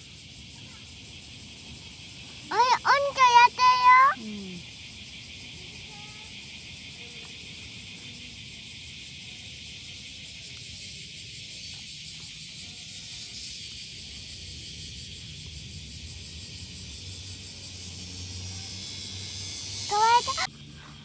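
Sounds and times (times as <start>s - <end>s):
insects shrilling: 0.0s - 21.0s.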